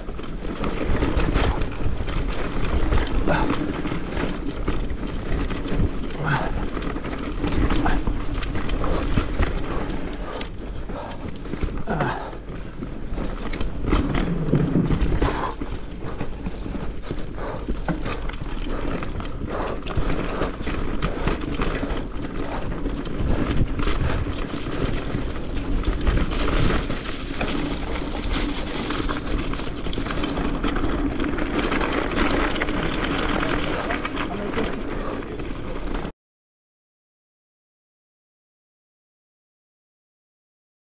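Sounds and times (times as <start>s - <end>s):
bike chain and frame rattling: 0.0s - 36.1s
bike tyres on dirt: 0.0s - 36.1s
tyres rolling on gravel: 0.0s - 36.1s.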